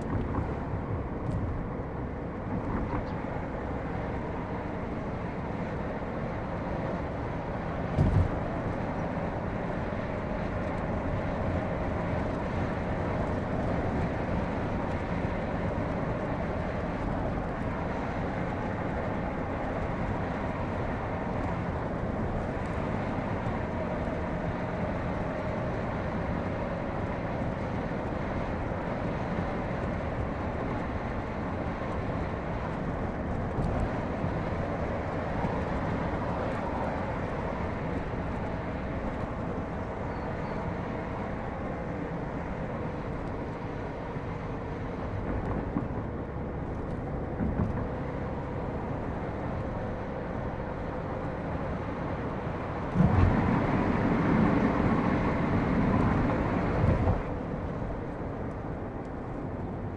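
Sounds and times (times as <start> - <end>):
engine drone: 0.0 - 59.9
road and tyre noise: 0.0 - 59.9.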